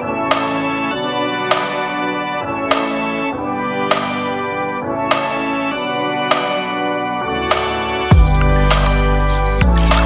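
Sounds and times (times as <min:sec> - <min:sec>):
sustained music chords: 0:00.0 - 0:10.0.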